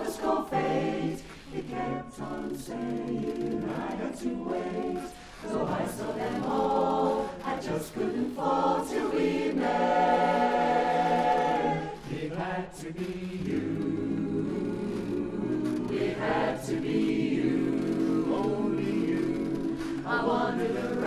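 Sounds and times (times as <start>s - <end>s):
barbershop chorus singing a cappella: 0.0s - 21.0s.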